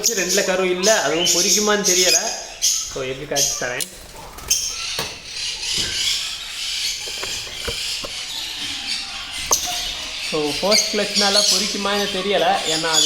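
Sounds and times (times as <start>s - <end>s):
lovebirds chattering: 0.0s - 13.0s.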